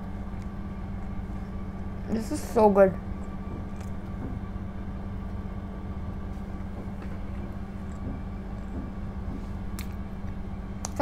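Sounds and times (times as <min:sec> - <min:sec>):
construction machinery drone: 0:00.0 - 0:11.0.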